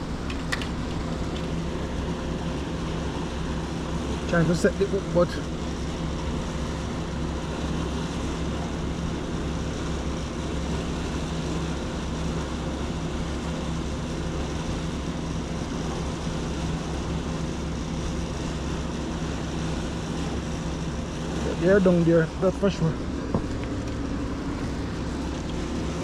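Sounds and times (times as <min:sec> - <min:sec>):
low mechanical drone: 0:00.0 - 0:26.0.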